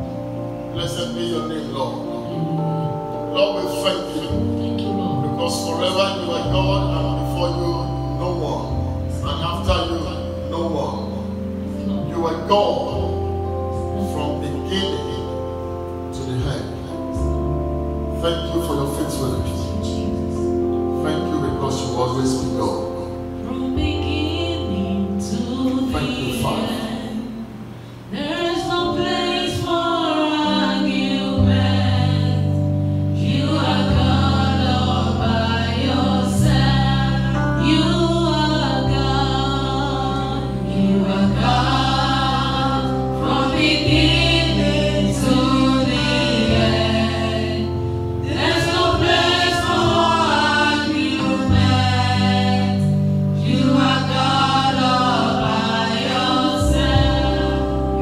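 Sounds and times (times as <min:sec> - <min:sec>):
gospel choir singing: 0:00.0 - 0:58.0
long held low notes: 0:00.0 - 0:58.0.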